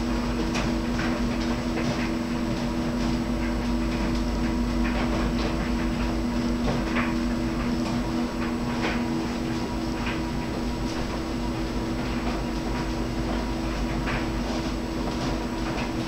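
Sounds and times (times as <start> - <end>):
clothes dryer humming: 0.0 - 16.0.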